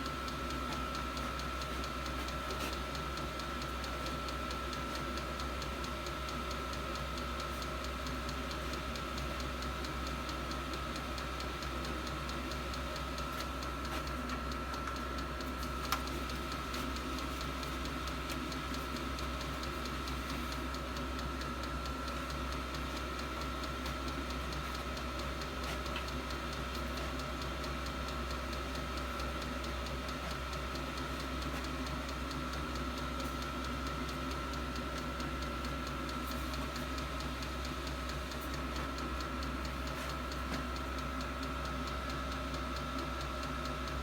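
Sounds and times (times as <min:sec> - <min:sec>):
heater blower hum: 0:00.0 - 0:44.0.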